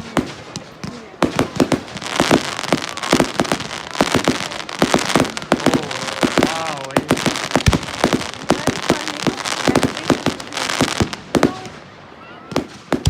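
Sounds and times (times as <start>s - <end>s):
crackling hiss: 0.0s - 13.0s
fireworks bangs and cracks: 0.0s - 13.0s.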